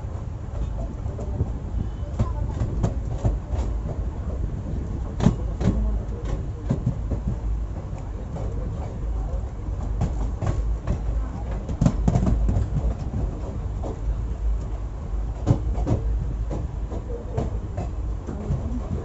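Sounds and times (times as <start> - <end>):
train rumbling: 0.0 - 19.0
wheels clattering on rails: 0.0 - 19.0.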